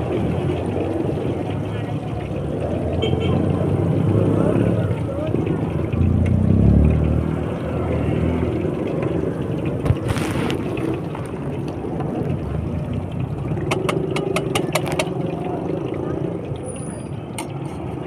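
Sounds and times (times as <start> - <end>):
oil bubbling in a wok: 0.0 - 18.0
street traffic engine rumble: 0.0 - 18.0.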